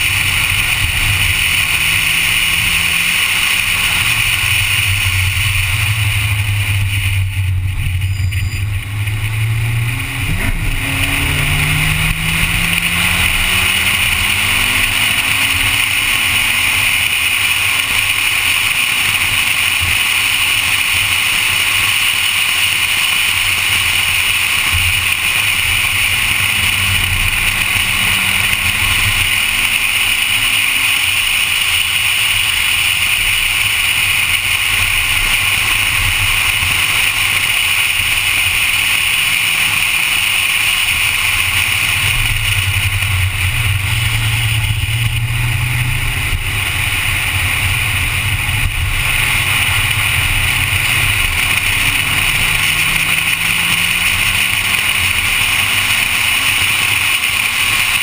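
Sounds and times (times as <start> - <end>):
car engine accelerating: 0.0 - 58.0
wind and road noise: 0.0 - 58.0.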